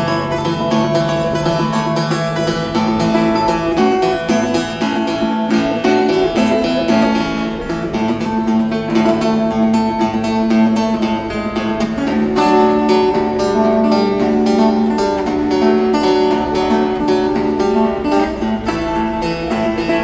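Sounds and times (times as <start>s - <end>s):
acoustic guitar strummed and picked: 0.0s - 20.0s.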